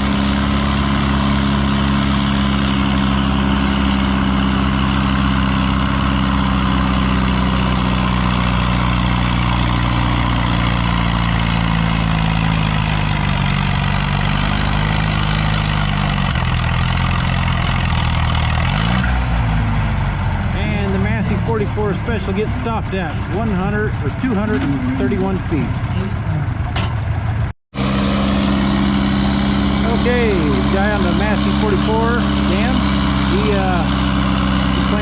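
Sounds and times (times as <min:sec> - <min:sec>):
tractor engine under heavy load: 0:00.0 - 0:35.0.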